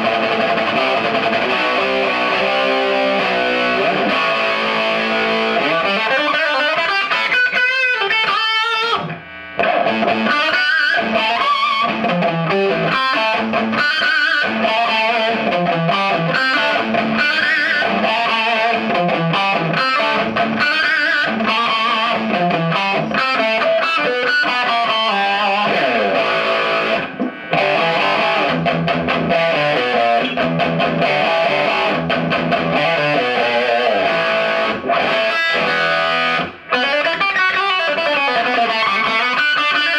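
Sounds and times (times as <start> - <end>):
electric guitar with light overdrive: 0.0 - 39.9.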